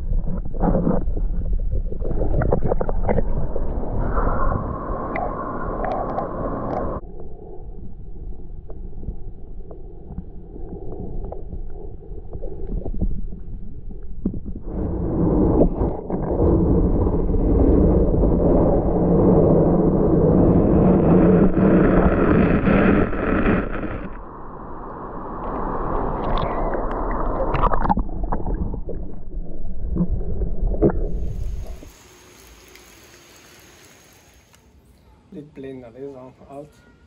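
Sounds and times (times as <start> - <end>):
muffled underwater rushing: 0.0 - 34.5.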